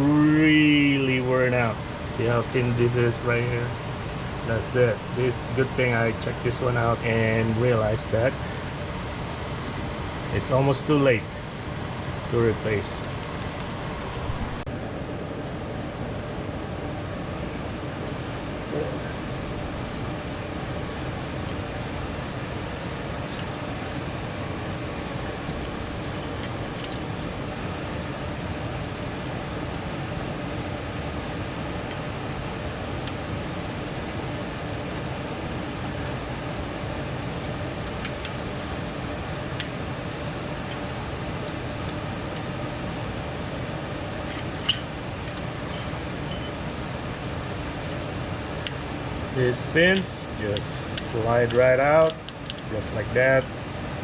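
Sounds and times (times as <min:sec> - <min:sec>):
background hiss and hum: 0:00.0 - 0:54.0.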